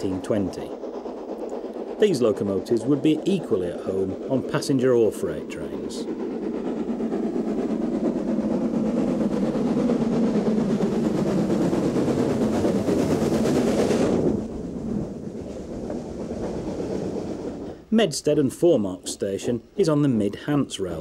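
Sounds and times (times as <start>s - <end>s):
steam locomotive exhaust beats: 0.0s - 21.0s.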